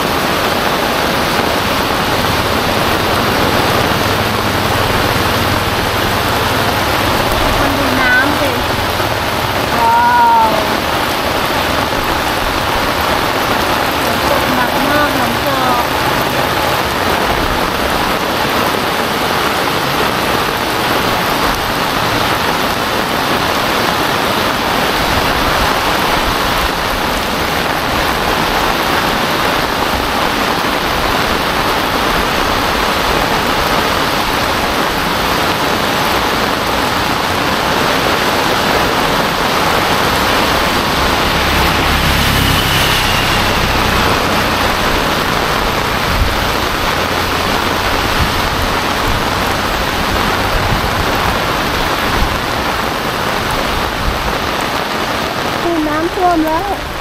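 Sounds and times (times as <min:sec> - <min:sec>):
heavy rain on pavement and leaves: 0:00.0 - 0:57.0.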